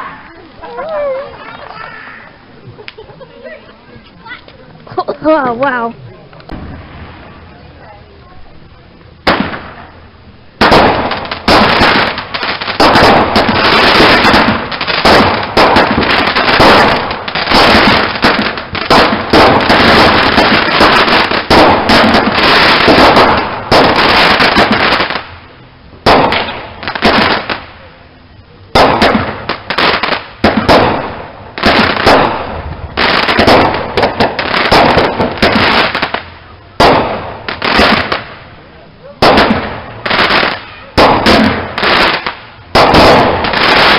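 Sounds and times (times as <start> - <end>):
fireworks bangs and crackling: 5.0 - 28.1, 28.7 - 43.9.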